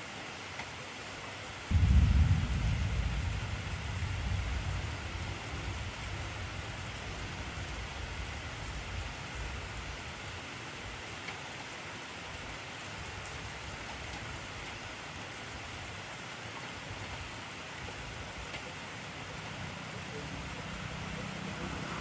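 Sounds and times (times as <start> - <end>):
heavy rain hissing: 1.5 - 22.0.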